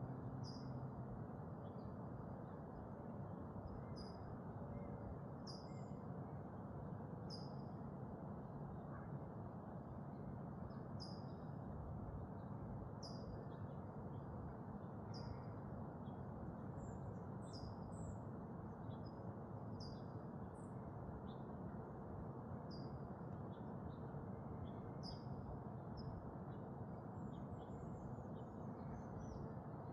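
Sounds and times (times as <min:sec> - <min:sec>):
low background hiss: 0:00.0 - 0:29.9.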